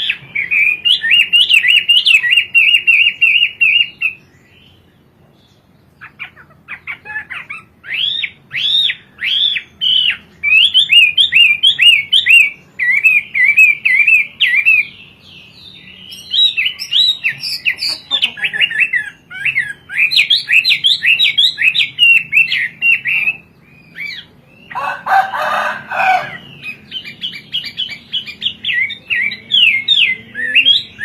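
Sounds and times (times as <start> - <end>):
bird singing whistled phrases: 0.0 - 4.2, 7.6 - 15.0, 15.7 - 24.7, 26.6 - 31.0.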